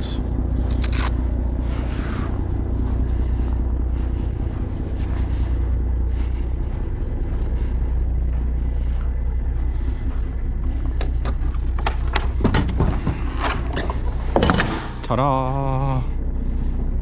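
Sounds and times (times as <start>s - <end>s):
diesel truck engine idling: 0.0s - 14.3s.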